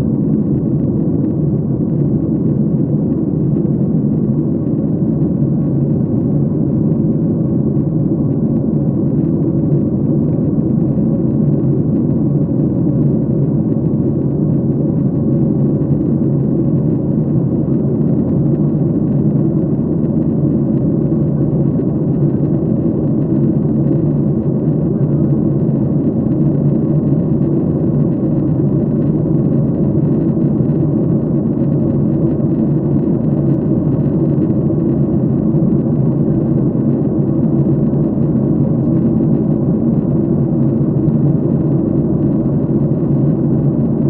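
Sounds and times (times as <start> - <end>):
airliner engines roaring: 0.0 - 44.0.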